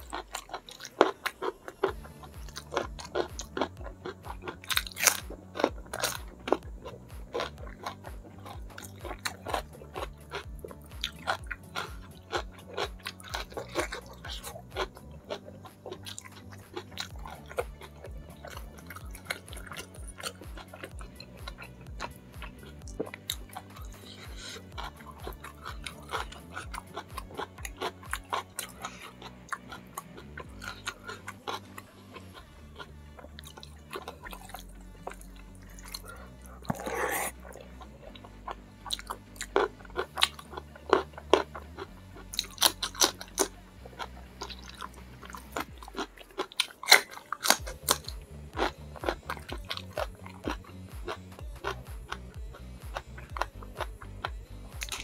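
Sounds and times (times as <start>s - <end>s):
person chewing and smacking: 0.0s - 55.0s.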